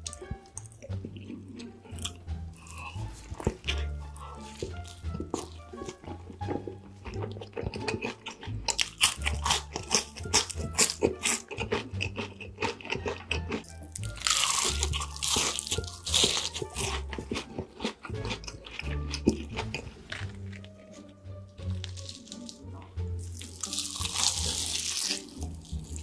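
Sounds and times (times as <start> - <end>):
background music with bass: 0.0 - 26.0
crunchy bites and chewing: 0.0 - 26.0.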